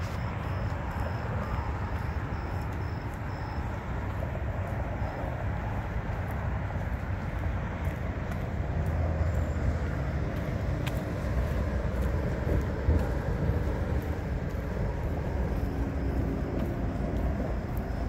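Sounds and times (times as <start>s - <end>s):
distant road traffic rumble: 0.0s - 18.0s.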